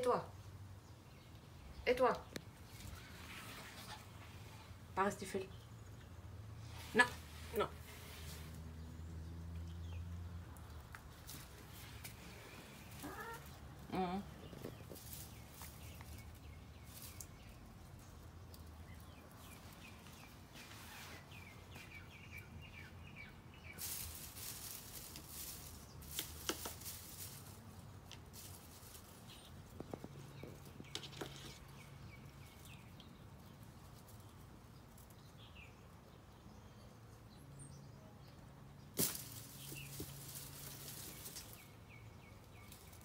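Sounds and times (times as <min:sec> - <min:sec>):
faint rustling of grass: 0:00.3 - 0:37.7, 0:38.8 - 0:43.0.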